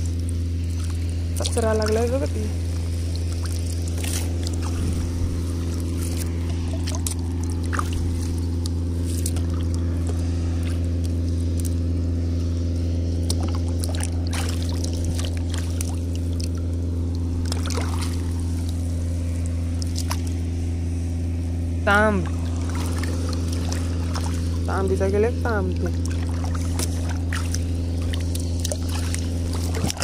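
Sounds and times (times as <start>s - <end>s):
light water splashes: 0.0s - 21.5s, 22.1s - 30.0s
engine humming steadily: 0.0s - 30.0s.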